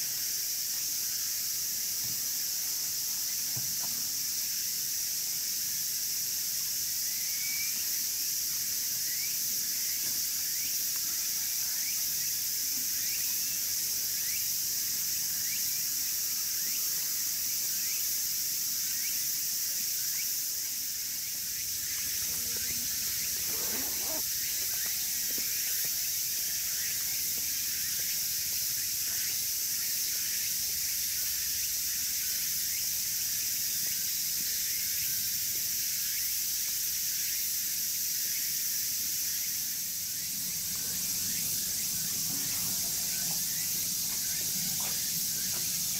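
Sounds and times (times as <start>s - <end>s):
insects shrilling: 4.0s - 45.9s.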